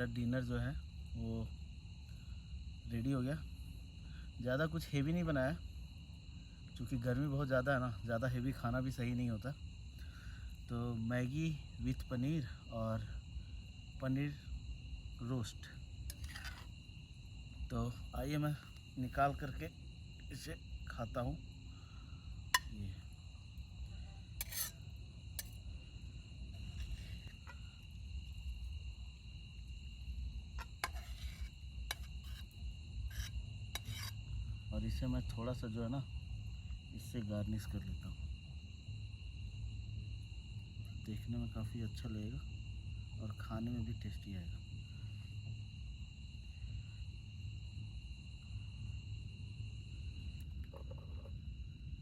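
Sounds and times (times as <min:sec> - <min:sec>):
crickets trilling: 0:00.0 - 0:52.0.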